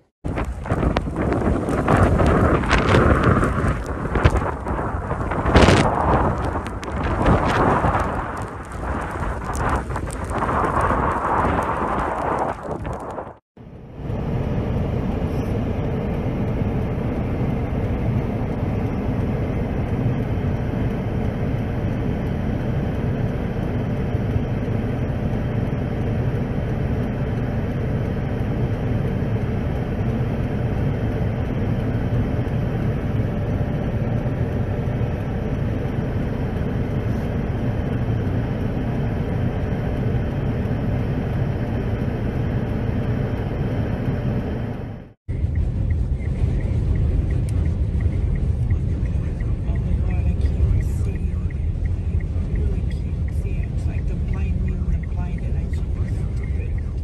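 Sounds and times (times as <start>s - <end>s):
blizzard wind rumble: 0.0s - 57.0s
vehicle noise inside car: 0.0s - 57.0s
faint steady hum: 0.3s - 57.0s.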